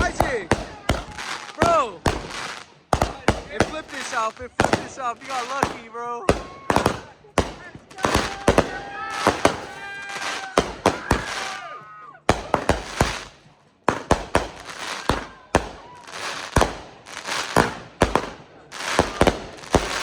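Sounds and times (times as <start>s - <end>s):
fireworks bangs and pops: 0.0s - 20.0s.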